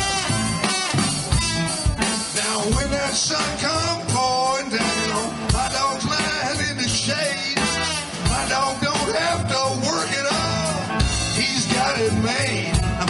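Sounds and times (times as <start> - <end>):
drum kit: 0.0 - 13.0
electric guitar: 0.0 - 13.0
person singing: 2.1 - 13.0.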